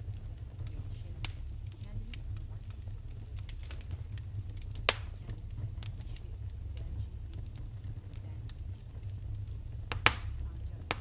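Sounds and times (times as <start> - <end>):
fireplace fire crackling: 0.0 - 11.0
loud pop of fire: 0.0 - 11.0.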